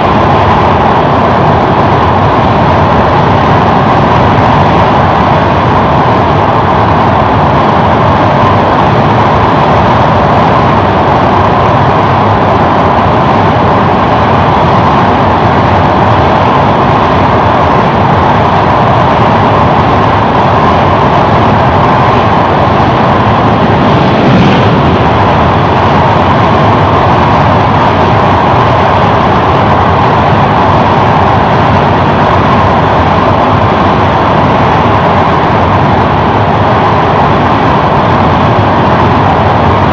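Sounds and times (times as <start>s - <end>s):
rushing air: 0.0s - 39.9s
train wheel-on-rail rush: 0.0s - 39.9s.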